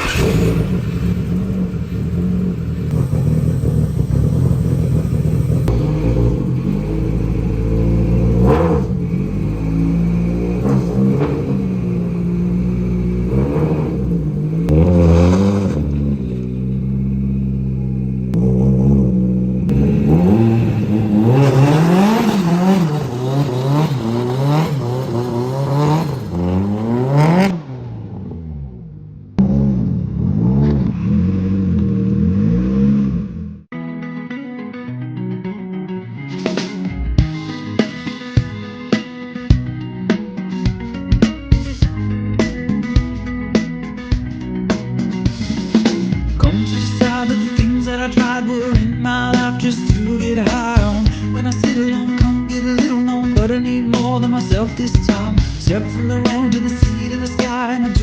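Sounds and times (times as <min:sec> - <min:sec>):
car engine revving: 0:00.0 - 0:33.7, 0:40.7 - 0:58.0.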